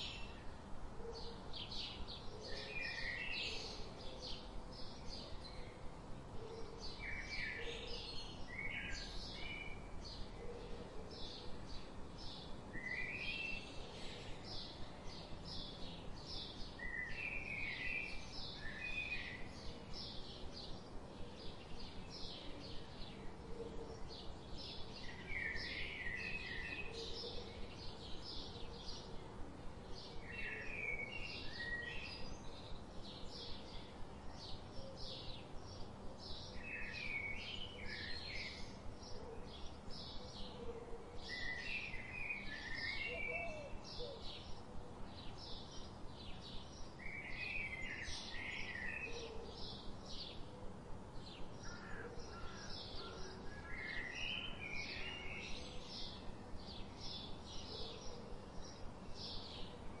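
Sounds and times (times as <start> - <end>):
birds singing: 0.0 - 60.0
faint background hiss: 0.0 - 60.0.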